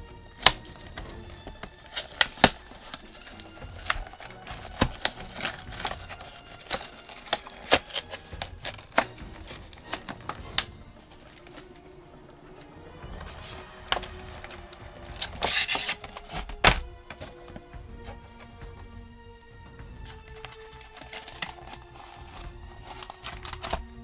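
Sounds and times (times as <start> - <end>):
stiff plastic crackling and snapping: 0.3 - 11.8, 13.1 - 19.0, 20.0 - 24.0.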